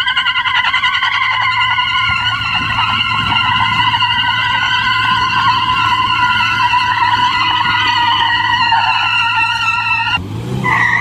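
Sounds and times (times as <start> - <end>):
engine running under load: 0.0 - 11.0
tyres squealing on asphalt: 0.0 - 11.0.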